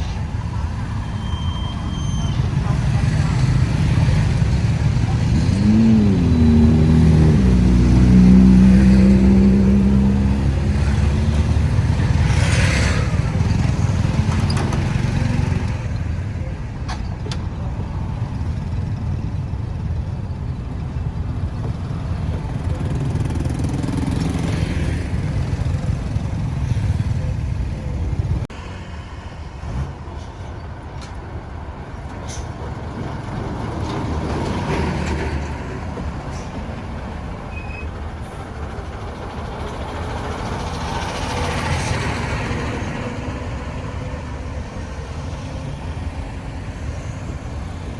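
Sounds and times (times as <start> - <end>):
traffic noise: 0.0 - 47.9
vehicle engine: 0.0 - 47.9.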